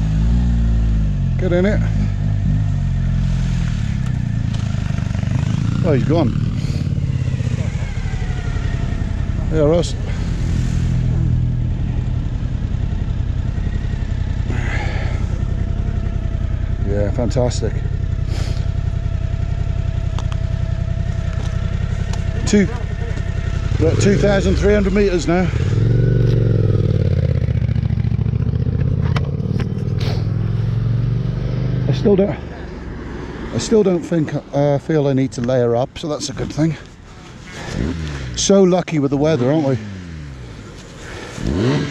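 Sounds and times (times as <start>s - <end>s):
motorcycle engine drone: 0.0s - 41.9s.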